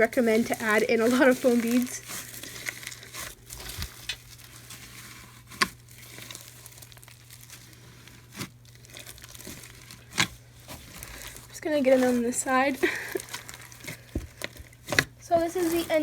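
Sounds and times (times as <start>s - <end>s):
slime squishing and crackling: 0.0s - 16.0s.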